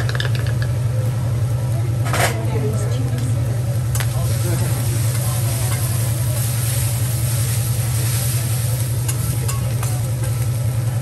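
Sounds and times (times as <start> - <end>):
rice sizzling on griddle: 0.0 - 11.0
steady low hum: 0.0 - 11.0.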